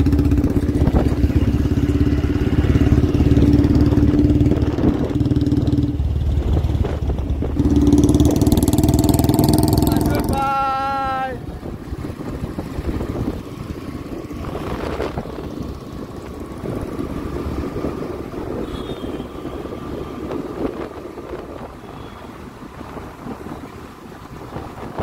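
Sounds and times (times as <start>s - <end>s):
motor vehicle rumbling: 0.0s - 25.0s
wind on microphone: 0.0s - 25.0s.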